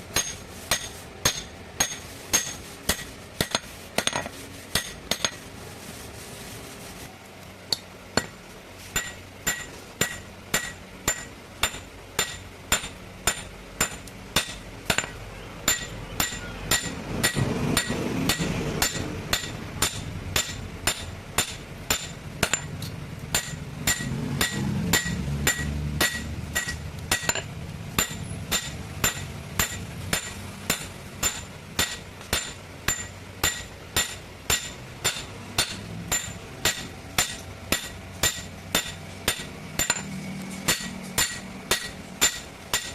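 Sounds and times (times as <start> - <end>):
hammer striking metal anvil: 0.1 - 5.4, 9.0 - 42.9.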